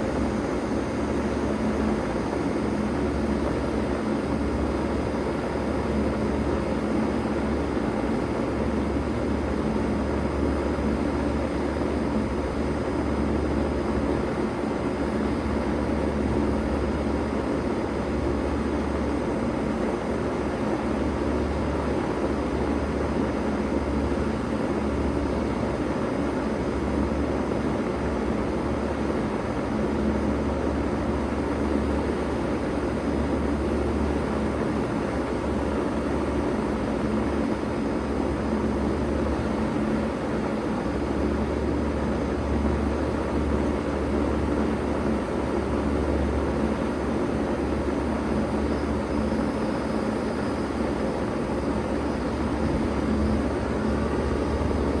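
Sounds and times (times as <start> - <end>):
heat pump hum: 0.0 - 55.0.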